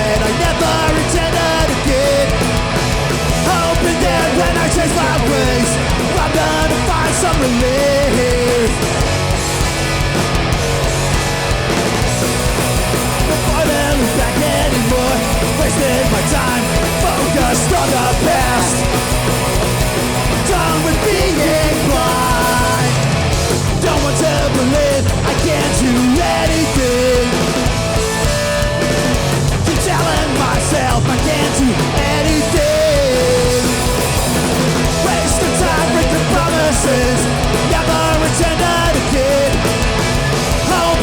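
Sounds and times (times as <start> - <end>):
punk band playing live: 0.0 - 41.0.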